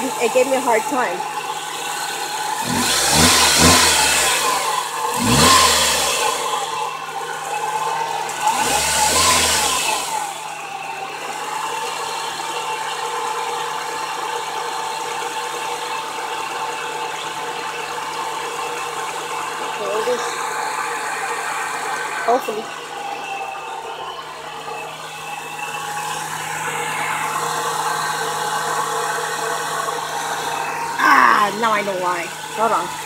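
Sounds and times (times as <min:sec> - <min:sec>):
car engine surging and idling: 0:00.0 - 0:33.0.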